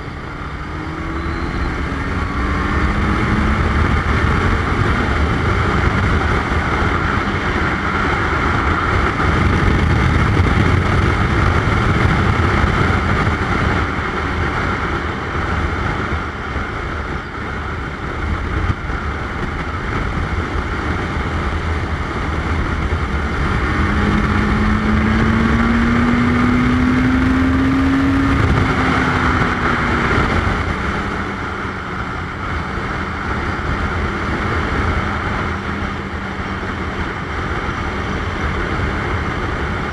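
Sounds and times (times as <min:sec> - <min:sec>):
motorcycle engine running: 0:00.0 - 0:39.9
rising whine: 0:00.0 - 0:39.9
wind on microphone: 0:00.0 - 0:39.9.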